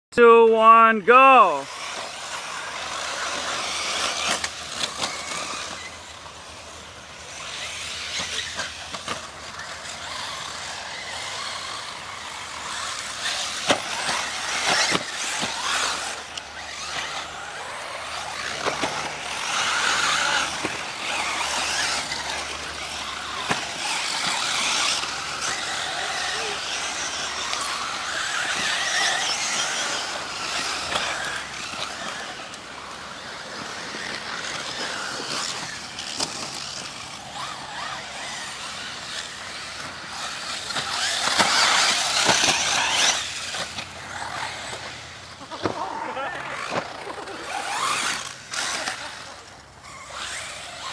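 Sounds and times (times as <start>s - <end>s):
rc cars racing on dirt: 0.2s - 50.9s.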